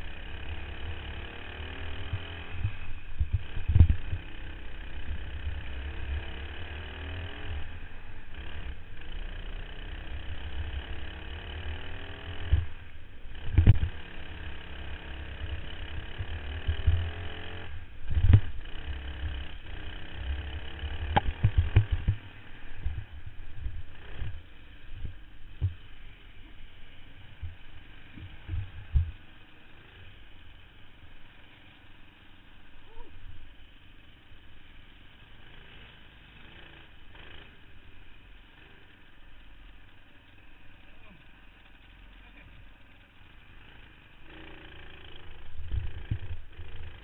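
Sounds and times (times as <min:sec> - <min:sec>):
kart engine revving: 0:00.0 - 0:47.0.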